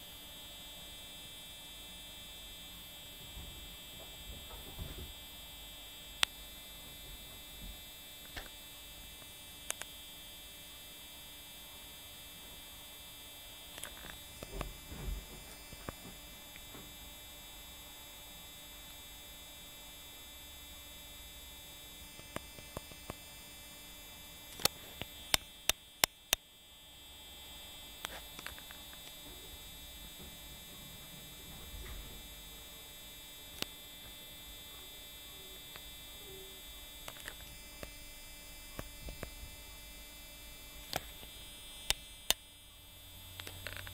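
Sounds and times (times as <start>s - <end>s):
electrical hum: 0.0s - 43.9s
faint high steady tones: 0.0s - 43.9s.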